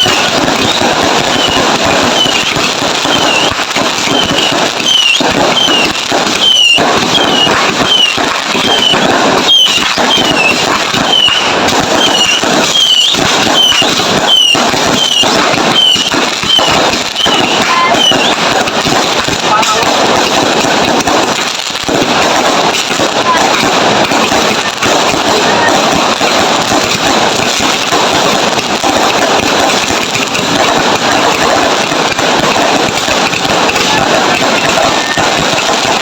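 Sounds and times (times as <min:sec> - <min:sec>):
fireworks crackling and banging: 0:00.0 - 0:36.0.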